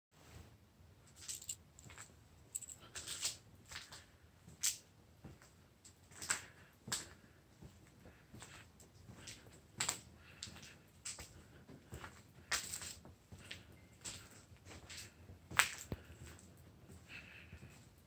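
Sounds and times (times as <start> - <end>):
footsteps crunching on debris: 1.1 - 17.8.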